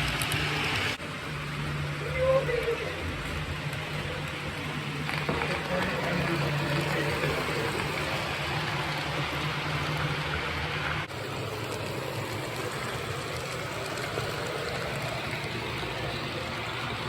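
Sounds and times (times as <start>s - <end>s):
model train whirring: 0.0s - 17.0s.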